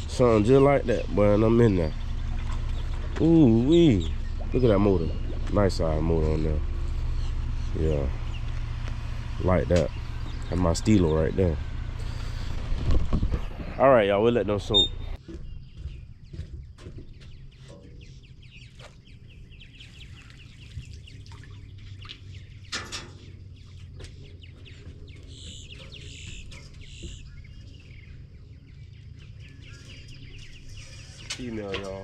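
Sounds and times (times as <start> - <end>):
birds chirping and calling: 0.0 - 32.0
steady low hum: 0.0 - 32.0.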